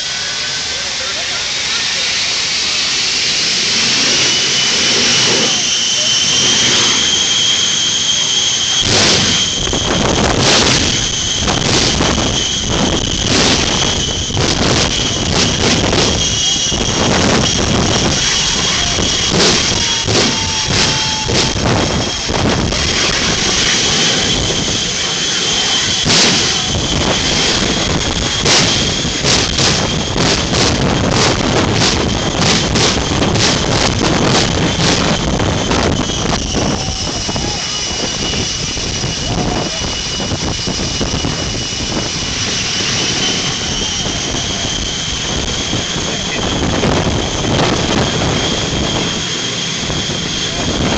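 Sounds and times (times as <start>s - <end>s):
high turbine whine: 0.0s - 50.9s
jet engine running: 0.0s - 50.9s.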